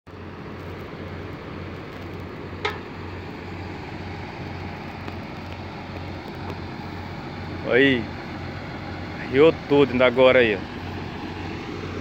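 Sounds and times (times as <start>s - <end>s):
diesel engine idling: 0.1s - 12.0s.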